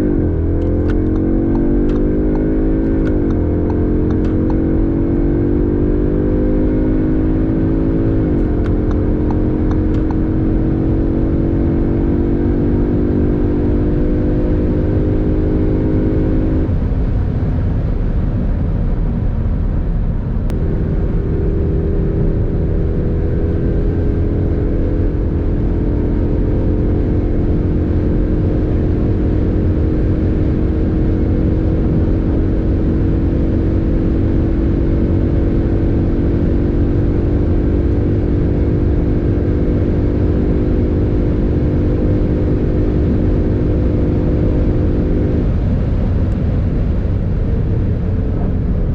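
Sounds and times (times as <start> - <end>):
road and wind rumble: 0.0 - 48.9.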